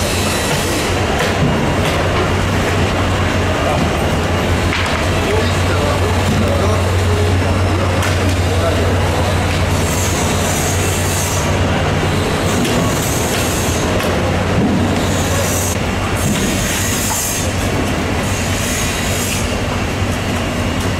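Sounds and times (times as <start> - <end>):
broad noisy din: 0.0 - 20.9
low mechanical hum: 0.0 - 20.9.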